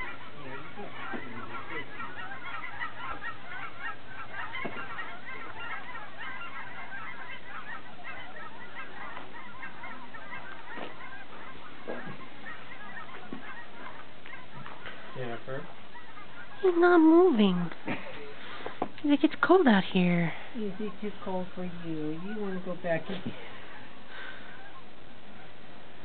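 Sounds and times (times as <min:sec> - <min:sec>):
chorus of bird calls: 0:00.0 - 0:26.0.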